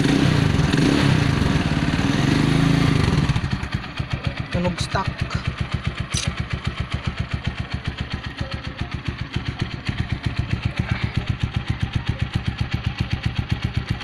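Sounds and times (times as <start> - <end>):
motorcycle idling: 0.0 - 14.0.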